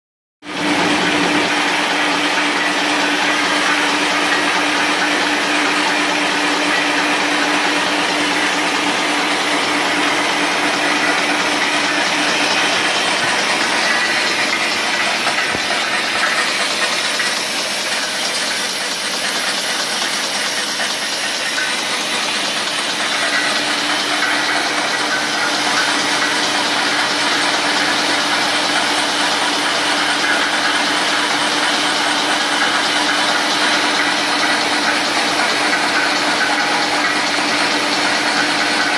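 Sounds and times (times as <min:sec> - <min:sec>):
wrapping machine running: 0:00.4 - 0:38.9.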